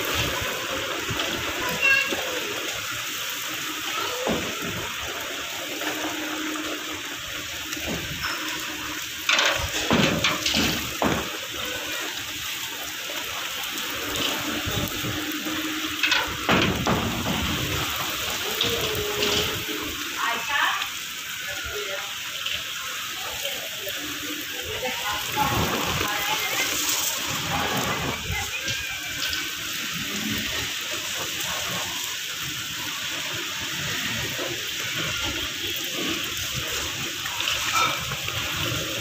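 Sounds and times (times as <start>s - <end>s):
heavy rain on rooftop: 0.0s - 39.0s.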